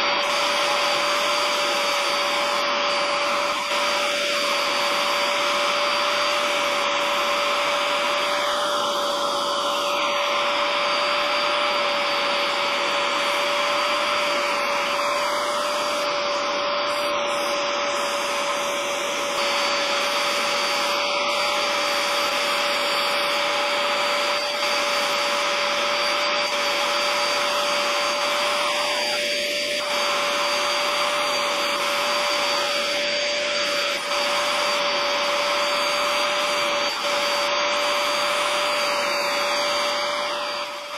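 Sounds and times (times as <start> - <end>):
hose wand on carpet: 0.0 - 40.9
vacuum motor whining: 0.0 - 40.9.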